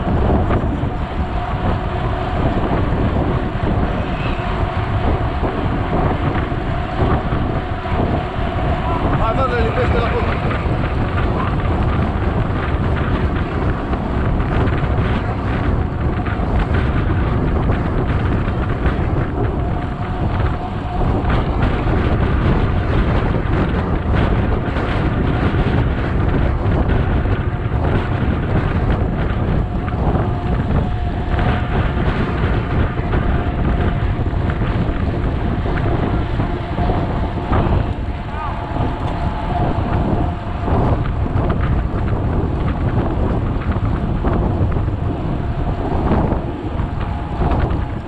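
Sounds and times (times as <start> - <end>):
bike tyres rolling on asphalt: 0.0 - 48.0
wind rumbling over microphone: 0.0 - 48.0.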